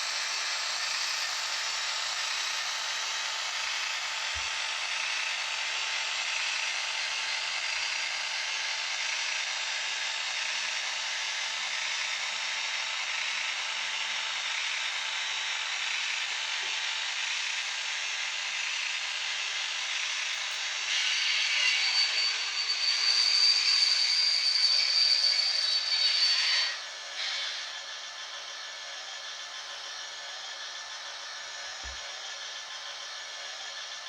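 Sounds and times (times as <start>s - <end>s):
model train motor whirring: 0.0s - 34.0s.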